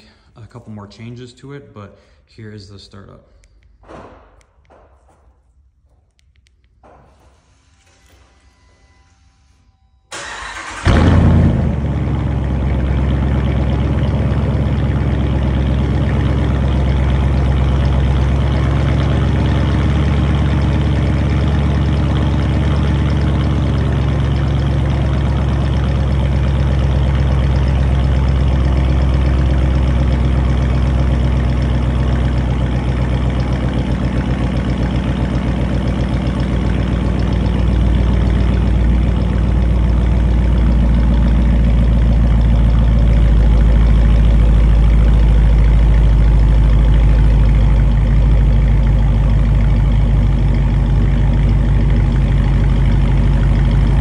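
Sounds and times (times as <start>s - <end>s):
car engine revving and idling: 10.2s - 54.0s.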